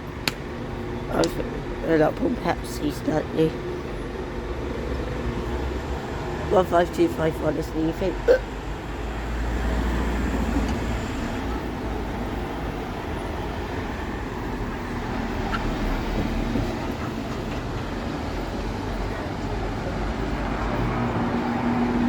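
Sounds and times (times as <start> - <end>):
diesel train engine and rail rumble: 0.0 - 22.0.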